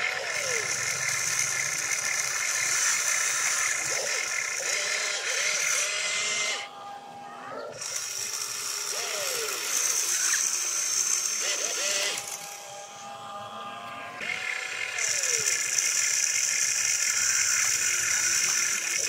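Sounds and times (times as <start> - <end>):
electric gear motors whirring: 0.0 - 19.0.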